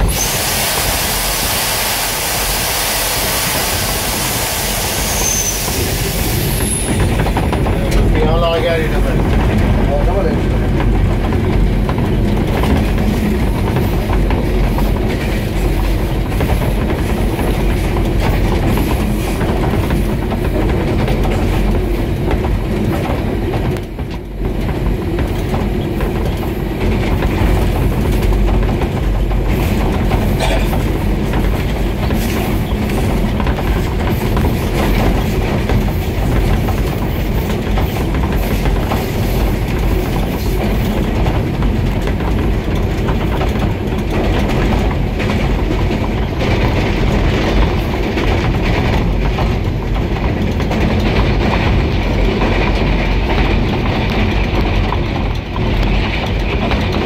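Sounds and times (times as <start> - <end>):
diesel locomotive running at speed: 0.0 - 57.0.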